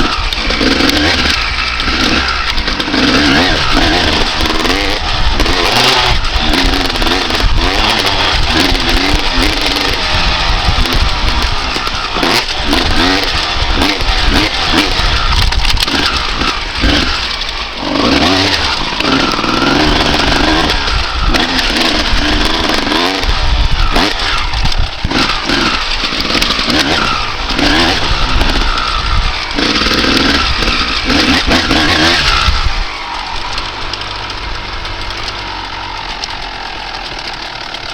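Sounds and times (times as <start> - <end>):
two-stroke engine revving: 0.0 - 37.9.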